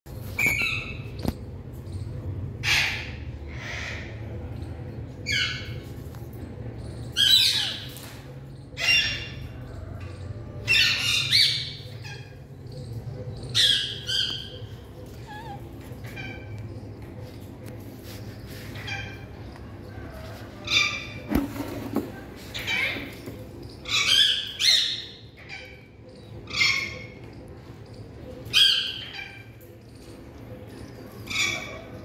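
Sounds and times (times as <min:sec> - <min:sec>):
parakeets calling: 0:00.3 - 0:20.0, 0:22.2 - 0:32.0.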